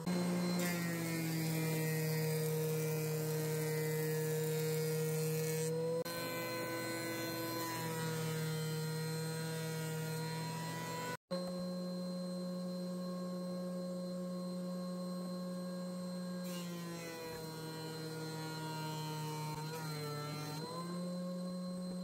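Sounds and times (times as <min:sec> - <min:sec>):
thickness planer motor whine: 0:00.0 - 0:22.0.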